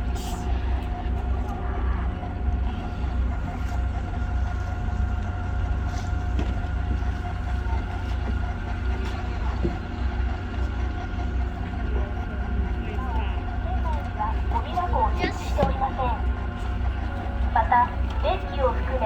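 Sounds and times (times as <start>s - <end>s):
constant high hum: 0.0s - 19.0s
ship engine deep rumble: 0.0s - 19.0s.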